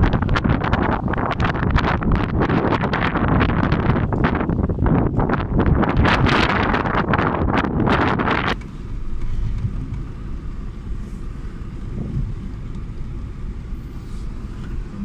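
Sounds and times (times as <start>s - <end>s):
car engine rumble from inside: 0.0s - 15.0s
wind buffeting microphone: 0.0s - 15.0s.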